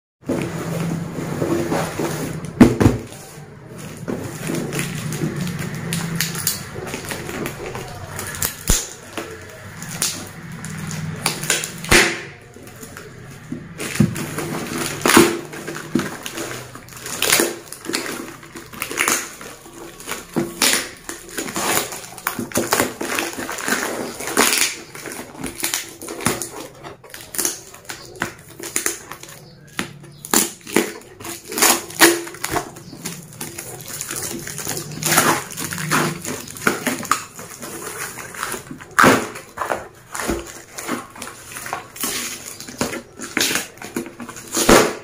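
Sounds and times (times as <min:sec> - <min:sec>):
plastic wrapping tearing and crinkling: 0:00.2 - 0:45.0.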